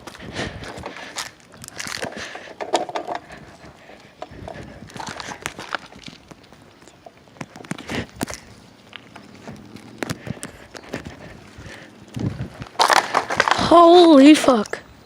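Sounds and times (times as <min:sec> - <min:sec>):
footsteps crunching: 0:00.0 - 0:14.7.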